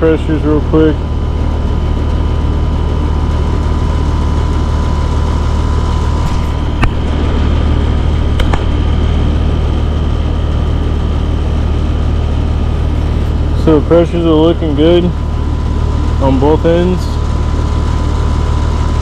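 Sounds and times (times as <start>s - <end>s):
air conditioner unit humming: 0.0s - 19.0s.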